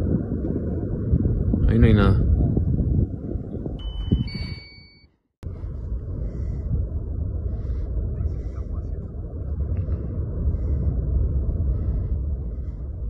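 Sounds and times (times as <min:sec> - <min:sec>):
deep steady rumble: 0:00.0 - 0:04.6, 0:05.4 - 0:13.0.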